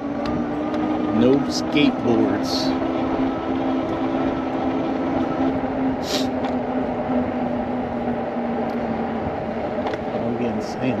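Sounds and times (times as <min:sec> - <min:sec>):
electric bike motor whine: 0:00.0 - 0:11.0
wind: 0:00.0 - 0:11.0.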